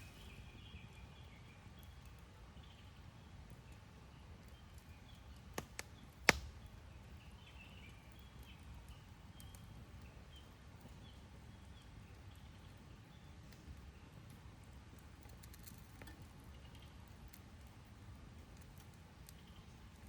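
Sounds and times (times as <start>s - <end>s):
burning wood popping: 0.0s - 0.7s, 1.7s - 20.0s.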